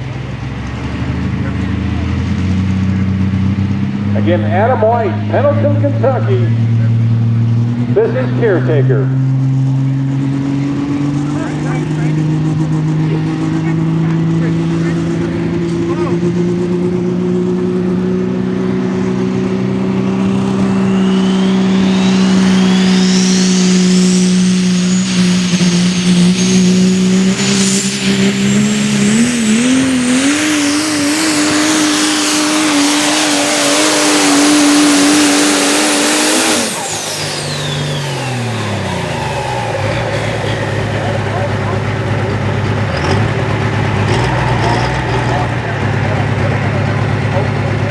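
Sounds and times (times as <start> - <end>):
diesel truck engine at full throttle: 0.0 - 47.9
turbo whine: 4.1 - 47.9.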